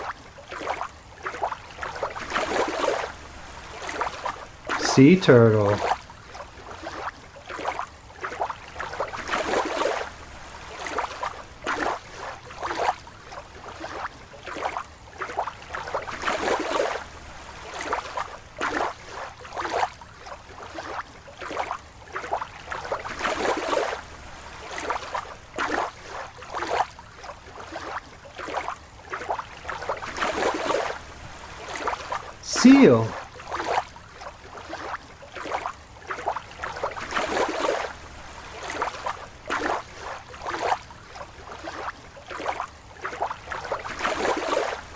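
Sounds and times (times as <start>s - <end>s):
water sloshing and gurgling: 0.0s - 4.8s, 5.8s - 32.4s, 33.1s - 44.9s.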